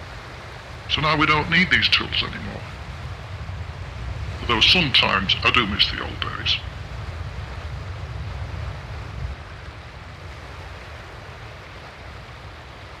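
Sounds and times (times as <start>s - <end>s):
wind and surf rumble: 0.0s - 13.0s.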